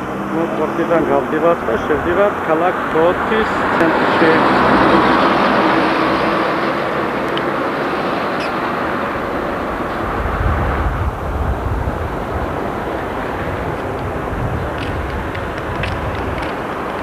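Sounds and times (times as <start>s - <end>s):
car running noise: 0.0s - 17.0s.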